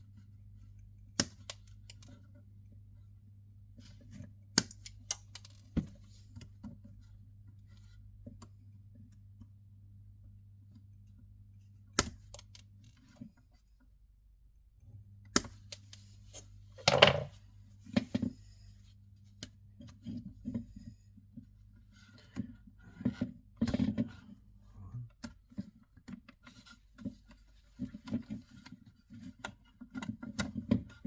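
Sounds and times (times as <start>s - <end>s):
low steady hum: 0.0s - 29.5s.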